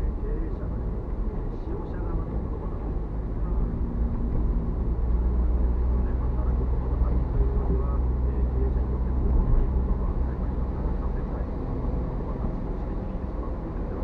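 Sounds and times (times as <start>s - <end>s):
faint voice from car radio: 0.0s - 4.1s, 5.1s - 14.0s
car driving rumble: 0.0s - 14.0s.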